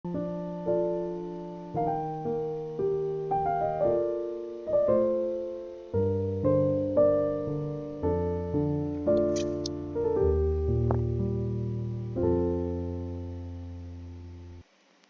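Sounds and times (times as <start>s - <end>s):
solo piano chords: 0.1s - 14.6s.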